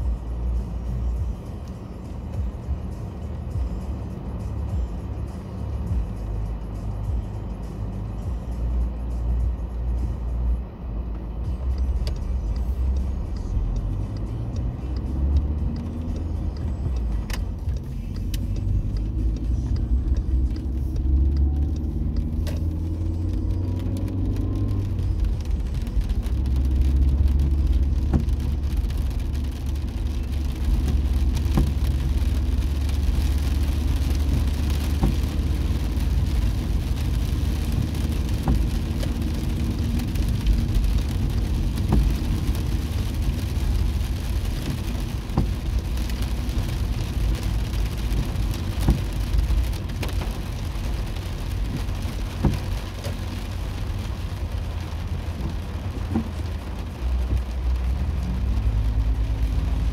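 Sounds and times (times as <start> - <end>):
car rumbling on wet road: 0.0 - 59.9
rain pattering on car roof: 0.0 - 59.9.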